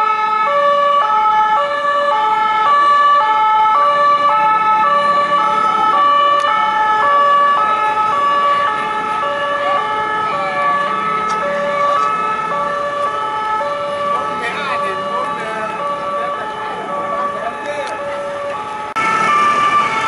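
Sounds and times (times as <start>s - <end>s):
two-tone police siren: 0.0s - 20.0s.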